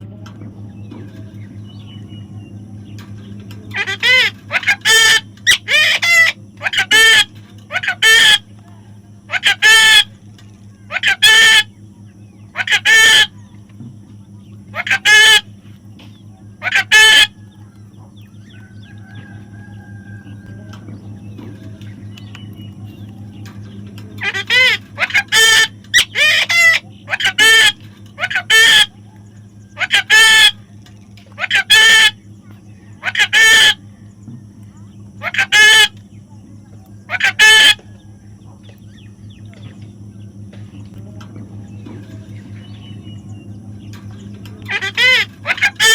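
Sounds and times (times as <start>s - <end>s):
steady low hum: 0.0s - 45.9s
parrot calling: 3.4s - 39.4s, 42.6s - 45.9s.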